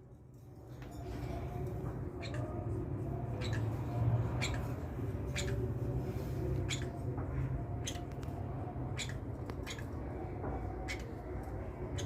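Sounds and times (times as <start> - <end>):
small birds chirping: 0.9 - 12.0.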